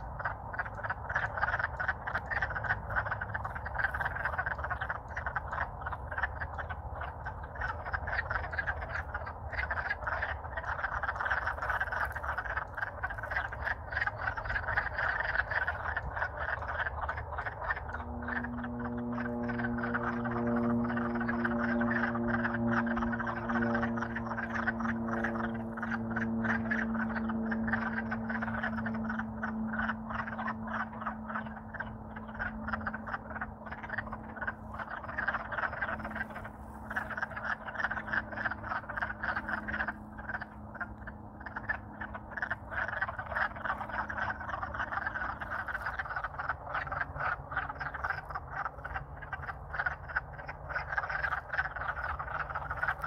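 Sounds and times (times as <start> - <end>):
frogs chorus clucking: 0.0 - 53.0
low steady hum: 0.0 - 53.0.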